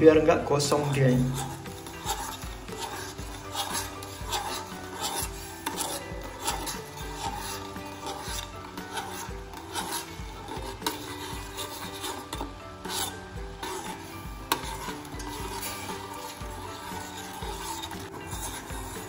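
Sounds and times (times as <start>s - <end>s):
metal spoon scraping saucepan: 0.4s - 19.0s.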